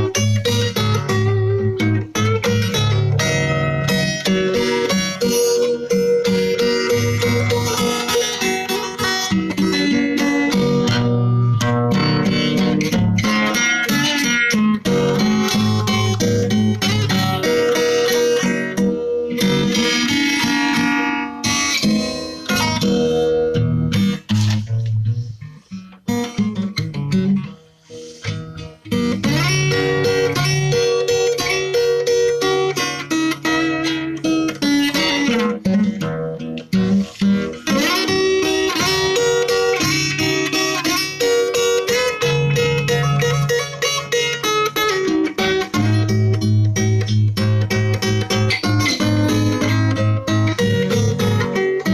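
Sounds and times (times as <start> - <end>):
plucked guitar music: 0.0 - 51.9.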